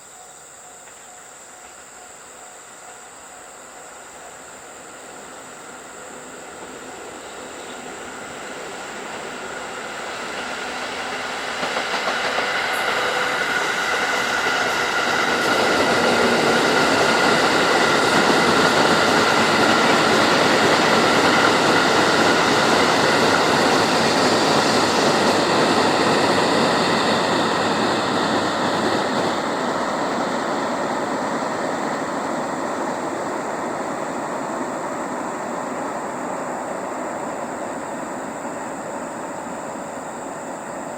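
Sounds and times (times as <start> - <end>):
train wheels rumbling on rail: 0.8 - 40.9.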